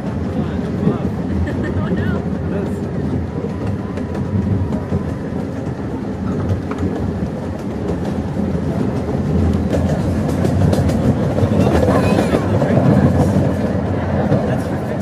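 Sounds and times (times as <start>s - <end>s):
miniature train rumbling: 0.0s - 15.0s
wheels clacking over rail joints: 0.0s - 15.0s.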